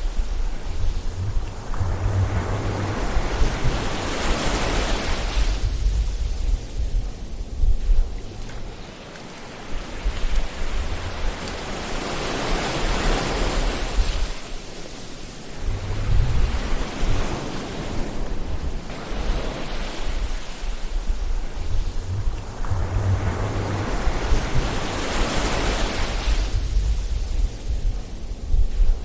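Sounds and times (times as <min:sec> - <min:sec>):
low rumble of surf: 0:00.0 - 0:29.0
ocean waves washing onto shore: 0:00.0 - 0:29.0.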